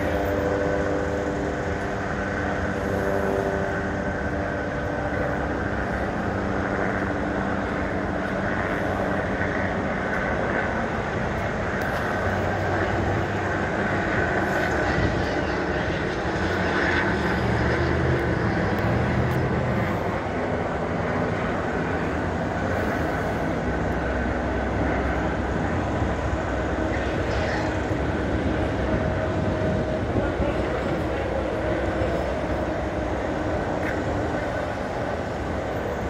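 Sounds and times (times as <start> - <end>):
vehicle engine hum: 0.0 - 36.0.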